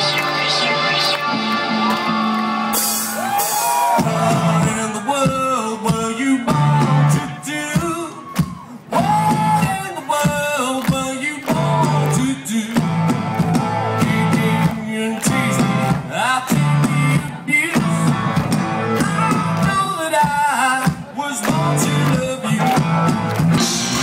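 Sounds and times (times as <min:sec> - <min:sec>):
person singing: 0:00.0 - 0:02.2, 0:03.4 - 0:24.0
rock band playing live: 0:00.0 - 0:24.0.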